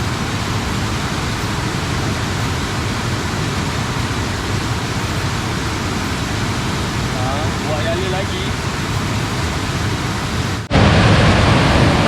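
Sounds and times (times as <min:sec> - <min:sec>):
fast-flowing water rushing: 0:00.0 - 0:12.0.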